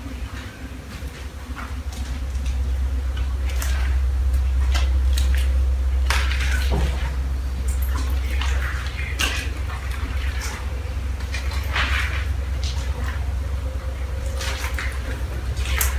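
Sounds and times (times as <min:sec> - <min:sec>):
low steady rumble: 0:00.0 - 0:15.9.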